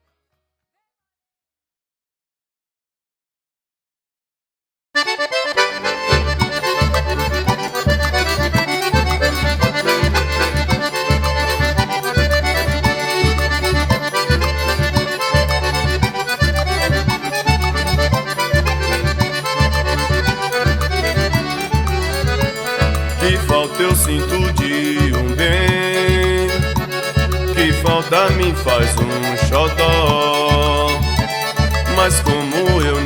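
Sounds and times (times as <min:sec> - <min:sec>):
accordion melody: 0:05.0 - 0:33.0
pulsing bass beat: 0:06.0 - 0:33.0.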